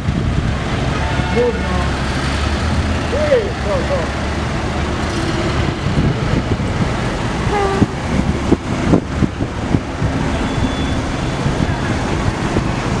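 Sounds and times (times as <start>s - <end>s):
car engines rumbling past: 0.0s - 13.0s.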